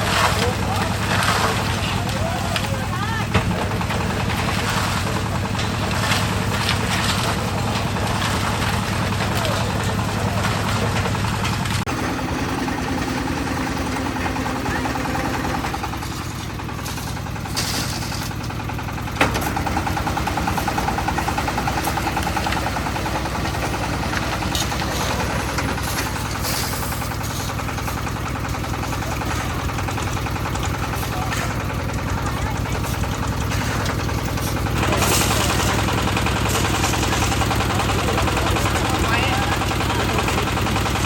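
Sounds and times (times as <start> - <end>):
concrete mixer engine running: 0.0 - 41.0.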